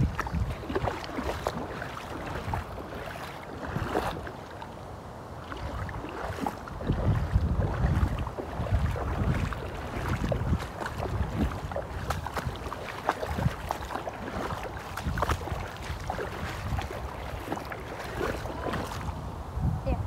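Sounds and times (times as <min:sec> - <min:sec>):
feet sloshing through water: 0:00.0 - 0:19.5
wind rumbling on microphone: 0:00.0 - 0:20.0.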